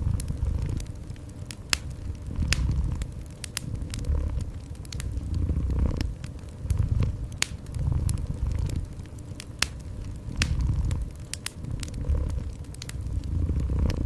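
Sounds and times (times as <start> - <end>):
cat purring: 0.0 - 1.2, 1.8 - 14.0
wood fire crackling: 0.0 - 14.0.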